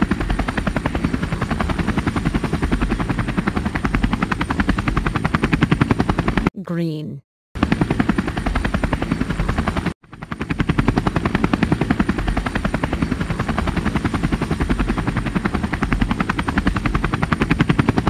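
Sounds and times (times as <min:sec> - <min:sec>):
helicopter rotor blades chopping: 0:00.0 - 0:07.0, 0:07.6 - 0:18.0.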